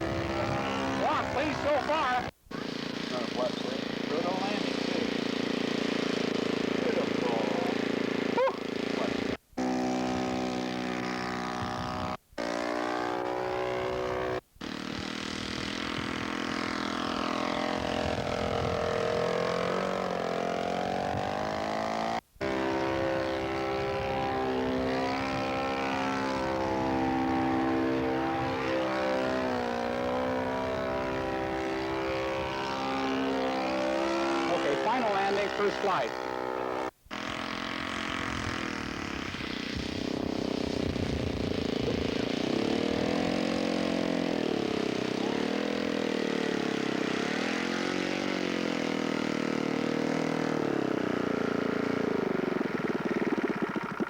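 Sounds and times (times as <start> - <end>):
model airplane engine buzzing: 0.0 - 54.0.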